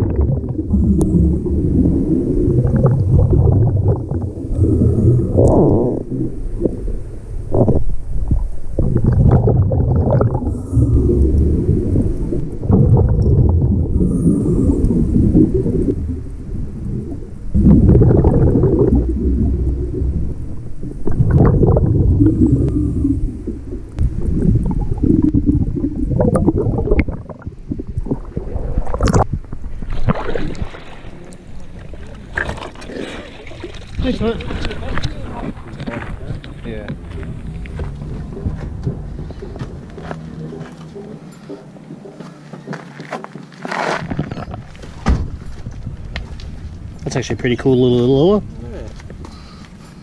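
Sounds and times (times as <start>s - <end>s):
underwater air bubbles rumbling: 0.0s - 42.1s
water sloshing and hissing: 0.0s - 42.2s.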